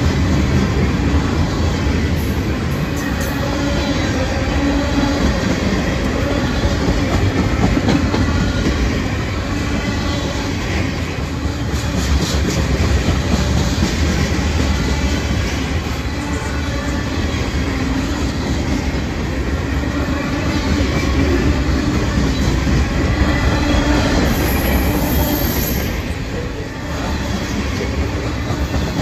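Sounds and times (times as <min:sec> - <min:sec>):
steel wheels rumbling on rails: 0:00.0 - 0:29.0.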